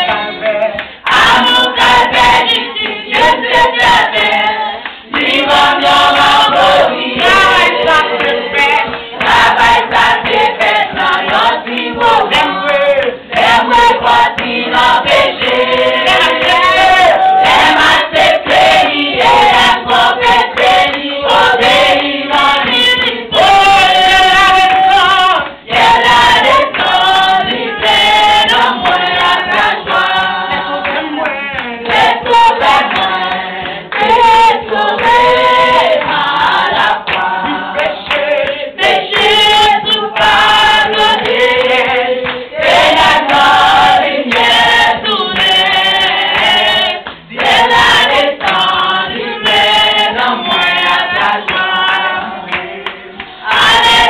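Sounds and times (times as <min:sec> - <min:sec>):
hand claps: 0:00.0 - 0:54.0
women singing unaccompanied: 0:00.0 - 0:54.0.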